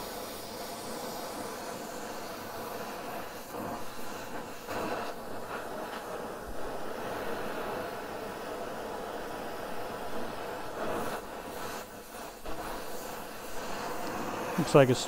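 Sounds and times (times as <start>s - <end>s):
gas torch flame hissing: 0.0s - 15.0s.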